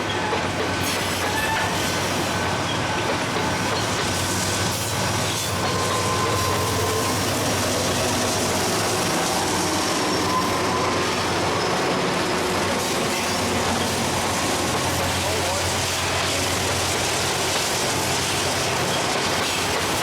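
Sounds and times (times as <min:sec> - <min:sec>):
freight train rumbling and rattling: 0:00.0 - 0:20.0
train wheel squeals: 0:00.0 - 0:20.0.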